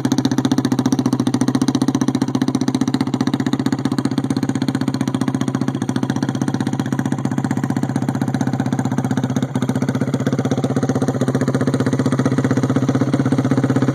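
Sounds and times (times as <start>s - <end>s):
quad engine idling: 0.0s - 13.9s.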